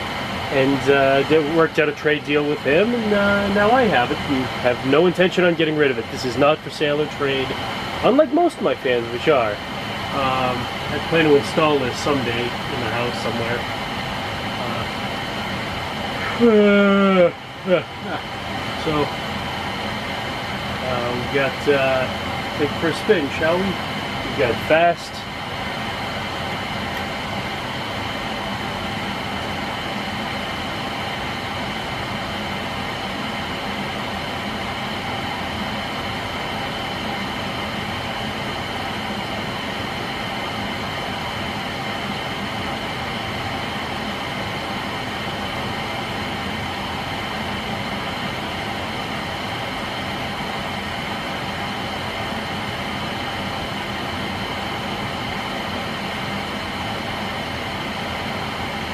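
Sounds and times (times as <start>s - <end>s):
ceiling fan air rush: 0.0s - 58.9s
faint fan motor hum: 0.0s - 58.9s.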